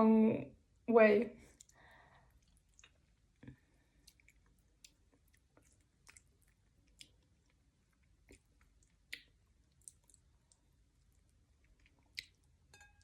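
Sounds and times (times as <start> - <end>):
person chewing wetly: 1.5 - 13.0.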